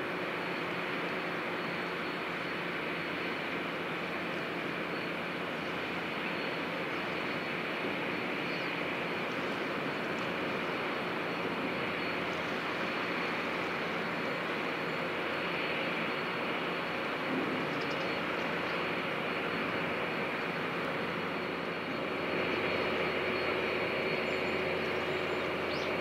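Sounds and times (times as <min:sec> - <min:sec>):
faint high whine: 0:00.0 - 0:26.0
ship machinery roar: 0:00.0 - 0:26.0.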